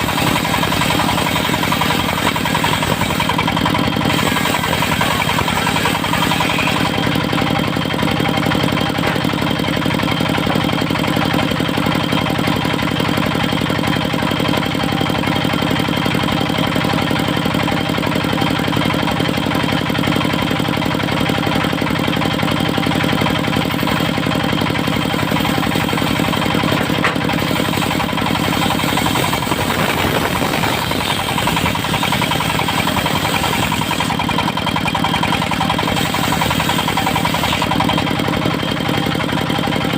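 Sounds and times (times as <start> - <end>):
sawmill engine knocking: 0.0 - 39.9.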